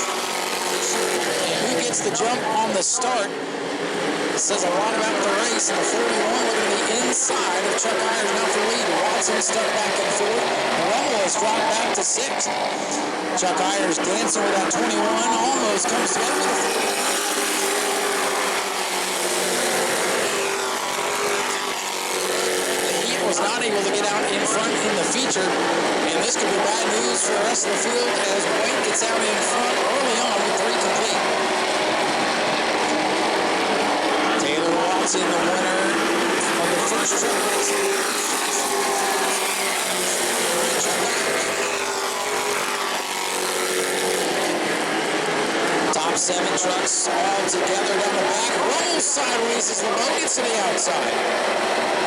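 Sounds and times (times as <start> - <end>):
racing trucks engines droning: 0.0 - 52.0.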